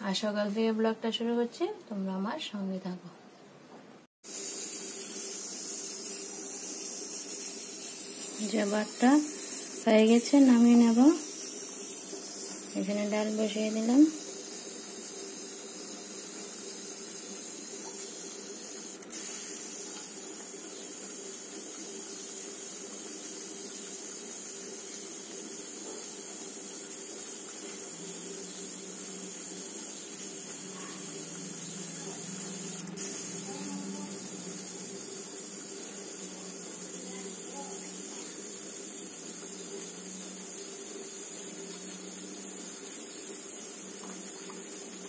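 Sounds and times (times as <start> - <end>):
pressure cooker hissing: 4.2 - 45.0.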